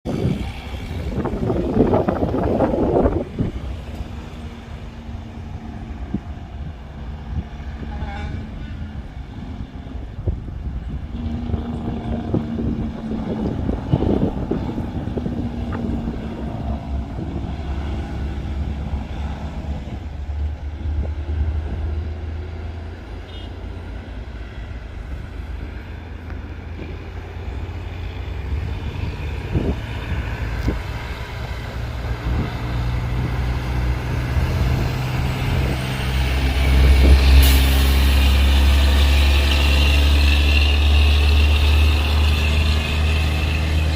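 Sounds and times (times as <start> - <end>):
truck diesel engine under load: 0.0 - 43.9.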